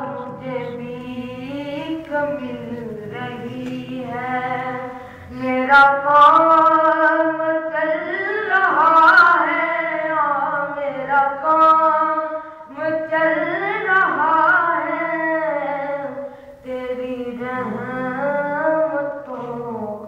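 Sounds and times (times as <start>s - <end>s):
boy singing unaccompanied: 0.0s - 20.0s.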